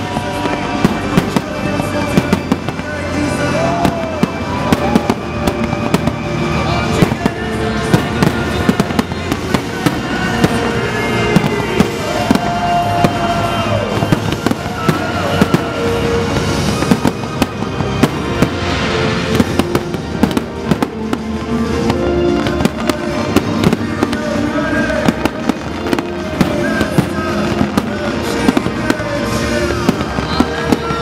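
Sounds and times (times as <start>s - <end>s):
fireworks banging: 0.0s - 31.0s
music playing: 0.0s - 31.0s.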